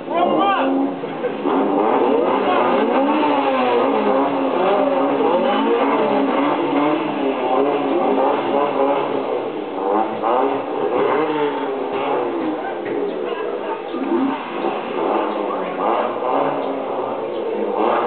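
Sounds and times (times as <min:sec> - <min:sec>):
car engine revving through speaker: 0:00.0 - 0:18.0.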